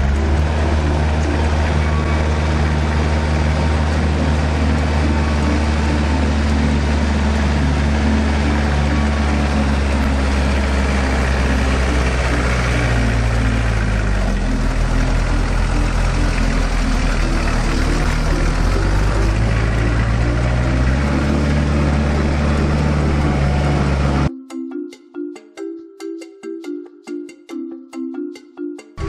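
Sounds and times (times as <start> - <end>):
tractor diesel engine droning: 0.0 - 24.3.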